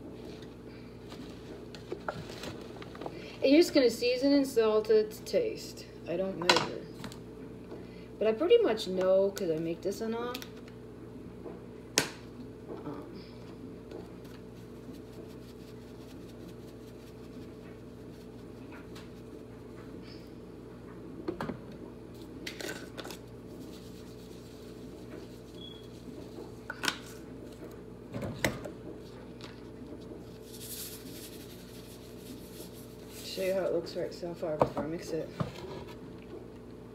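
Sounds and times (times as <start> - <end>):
appliance hum: 0.0 - 36.9.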